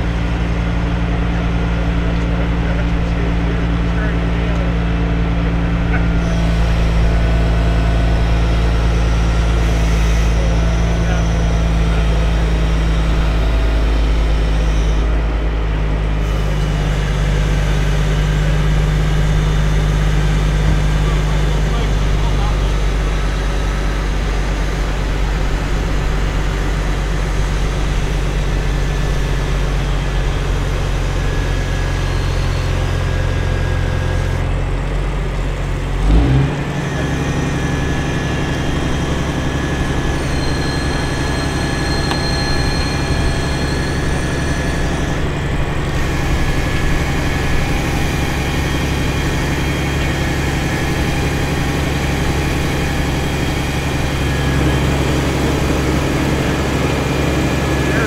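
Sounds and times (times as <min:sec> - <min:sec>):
large engine running: 0:00.0 - 0:58.0.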